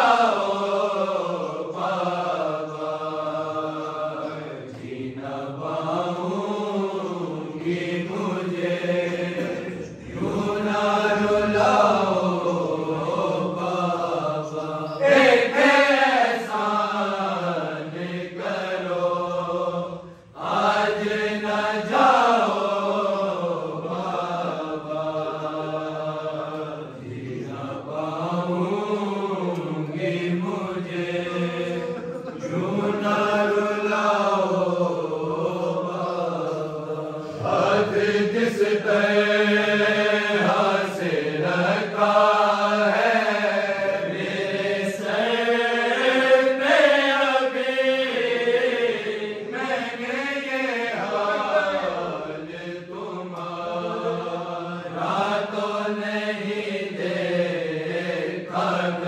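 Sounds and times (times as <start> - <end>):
men singing a lament: 0.0 - 59.0.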